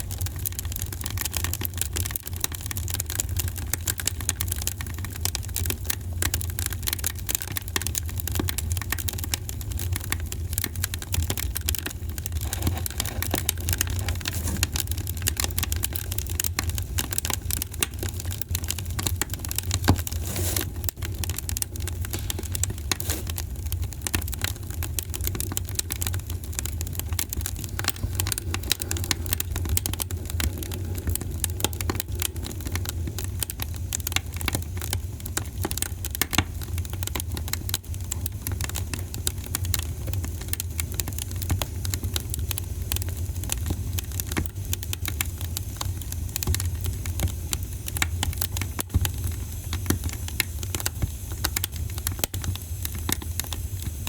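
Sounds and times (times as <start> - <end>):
fire crackling in fireplace: 0.0 - 54.0.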